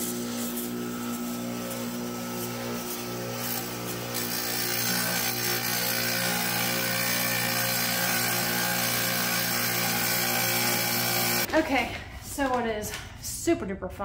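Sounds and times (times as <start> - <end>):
wet tile saw cutting: 0.0 - 11.5.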